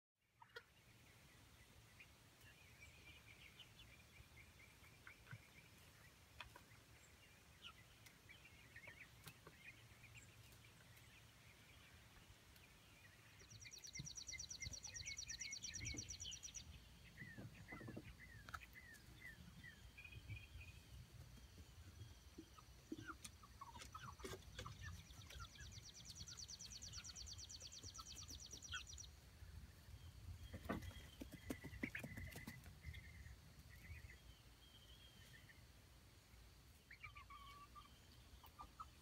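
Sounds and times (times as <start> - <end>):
chicks peeping and chirping: 0.3 - 39.0.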